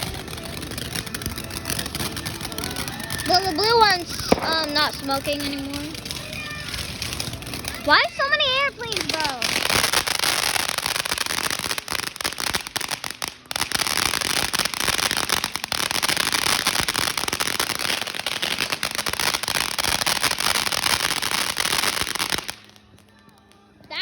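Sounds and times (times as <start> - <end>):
firework crackling pops: 0.0 - 24.0.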